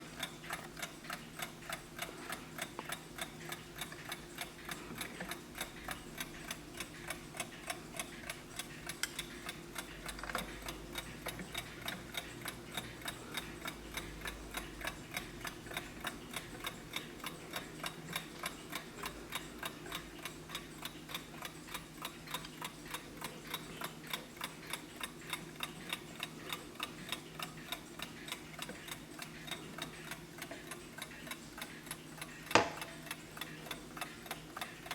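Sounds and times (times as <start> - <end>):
alarm clock ticking: 0.0 - 34.9.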